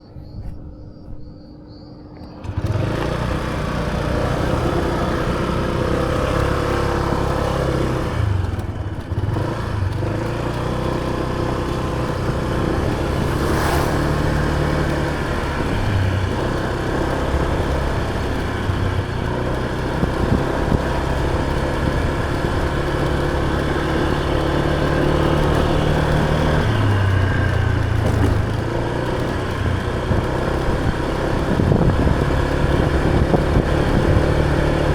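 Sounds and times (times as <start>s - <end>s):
scooter engine running: 1.6s - 34.9s.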